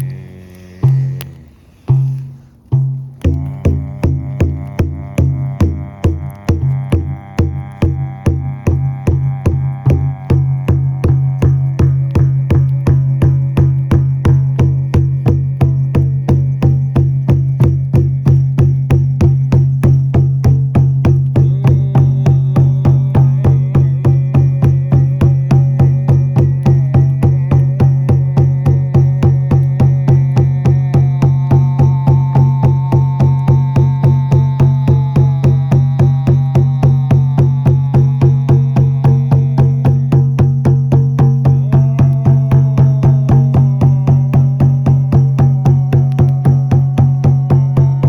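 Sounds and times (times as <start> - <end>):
frame drum beating: 0.0 - 48.0.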